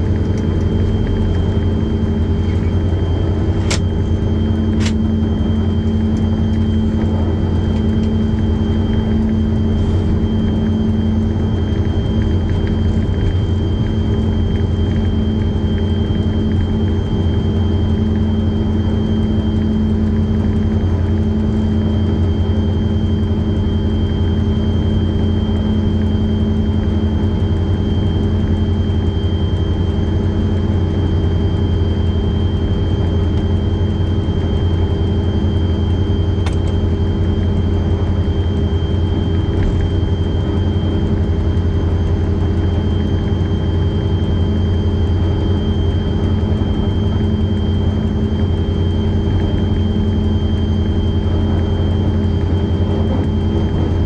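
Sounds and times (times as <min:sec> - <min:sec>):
diesel locomotive engine droning: 0:00.0 - 0:54.0
steady high whine: 0:00.0 - 0:54.0.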